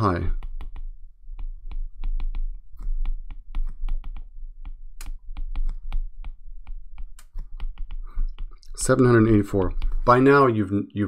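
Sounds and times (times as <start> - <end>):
stylus tapping on glass screen: 0.3 - 10.4.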